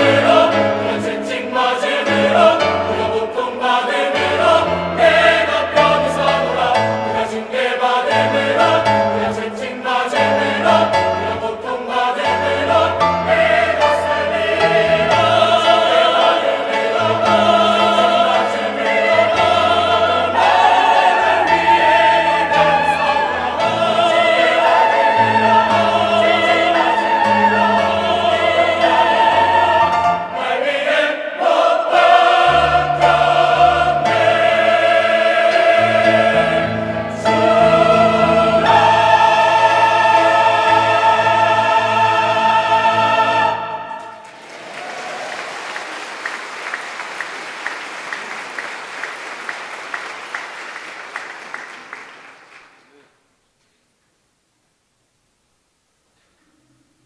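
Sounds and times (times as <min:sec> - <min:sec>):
choir singing: 0:00.0 - 0:46.0.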